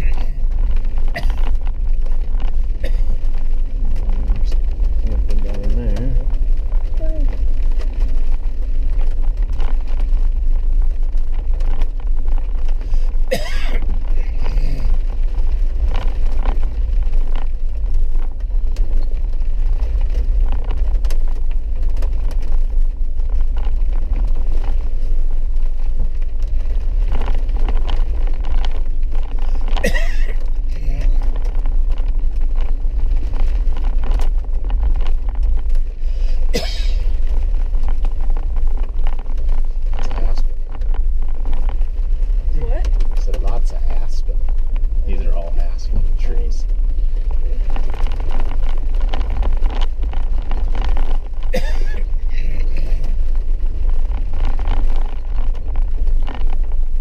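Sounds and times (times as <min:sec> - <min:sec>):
vehicle rumbling on dirt road: 0:00.0 - 0:57.0.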